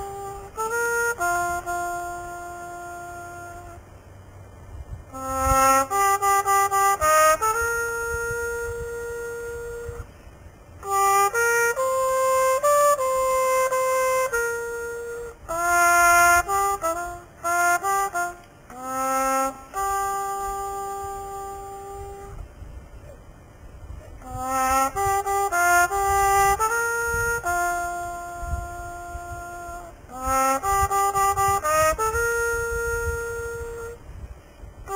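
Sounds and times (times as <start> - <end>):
solo jazz trumpet: 0.0 - 34.9.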